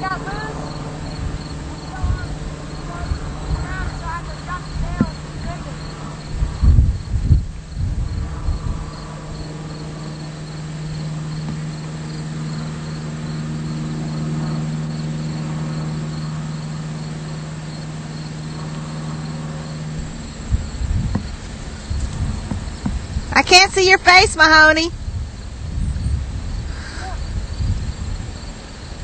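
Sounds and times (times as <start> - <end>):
crickets chirping: 0.0 - 29.0
steady low hum: 0.0 - 29.0.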